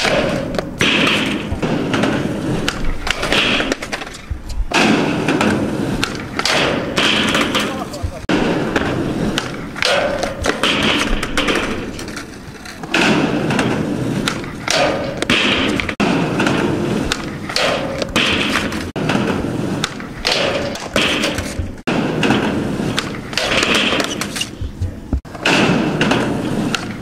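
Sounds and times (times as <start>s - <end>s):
skateboard thuds and clatter: 0.0s - 27.0s
skateboard wheels rolling on concrete: 0.0s - 27.0s.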